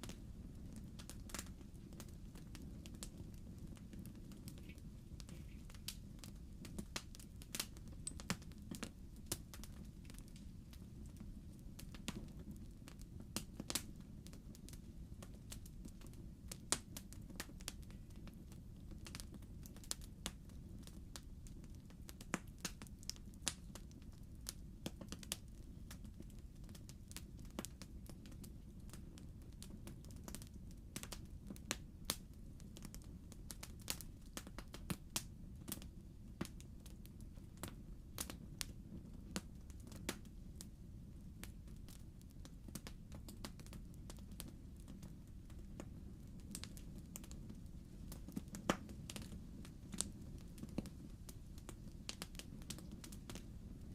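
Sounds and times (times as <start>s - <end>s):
log fire crackling: 0.0s - 53.9s.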